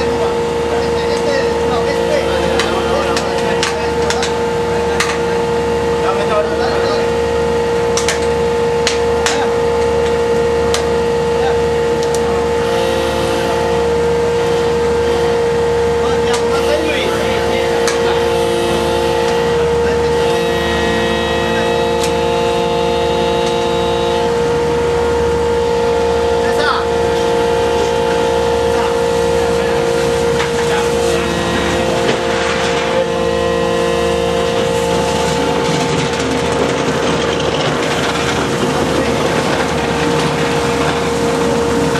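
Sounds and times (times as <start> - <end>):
deck machinery droning hum: 0.0 - 41.9
high machine whine: 0.0 - 41.9.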